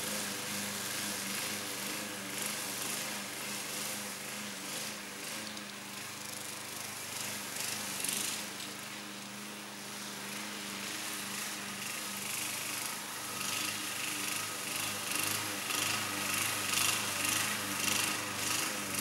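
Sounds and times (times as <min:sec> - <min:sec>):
grass and blade hiss: 0:00.0 - 0:19.0
lawn mower engine running: 0:00.0 - 0:19.0.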